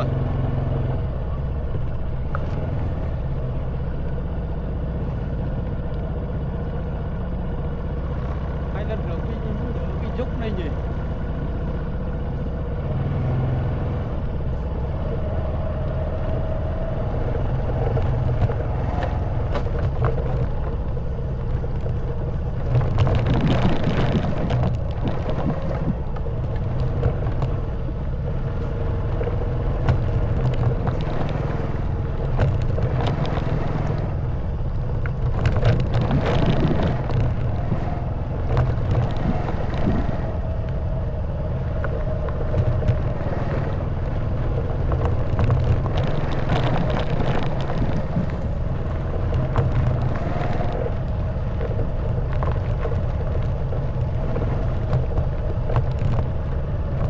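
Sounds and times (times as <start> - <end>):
motorcycle engine running: 0.0 - 57.0
motorcycle rattling on rough track: 0.0 - 57.0.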